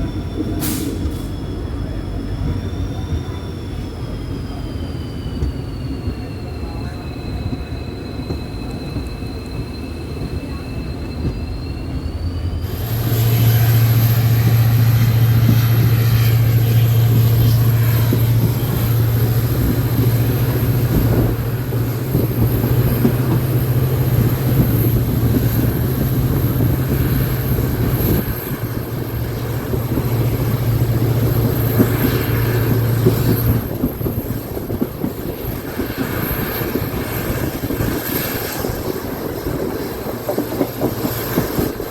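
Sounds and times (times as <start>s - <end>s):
train rumbling on track: 0.0s - 41.9s.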